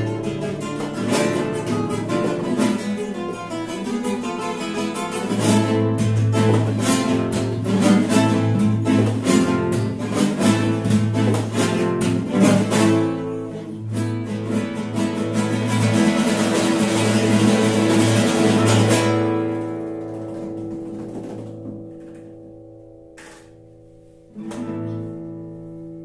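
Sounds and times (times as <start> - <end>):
classical guitar duet: 0.0 - 26.0.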